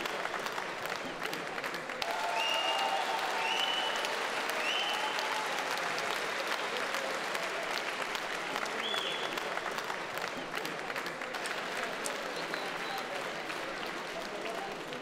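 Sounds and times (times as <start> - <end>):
crowd applauding and cheering: 0.0 - 15.0.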